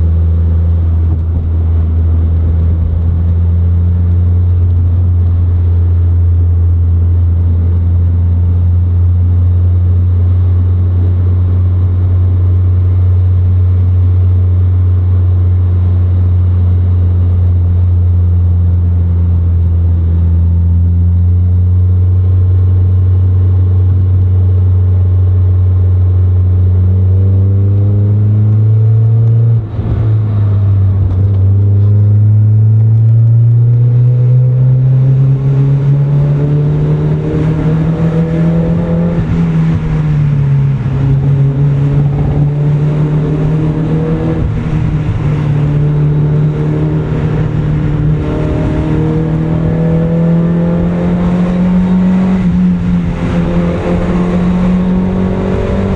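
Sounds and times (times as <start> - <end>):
car engine while driving: 0.0 - 55.9.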